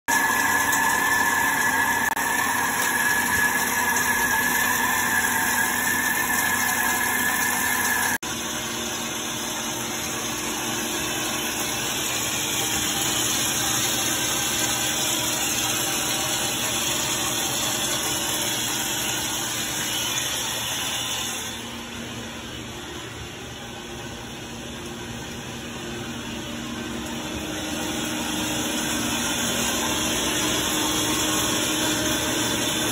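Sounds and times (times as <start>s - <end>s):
lathe machining noise: 0.1s - 32.9s.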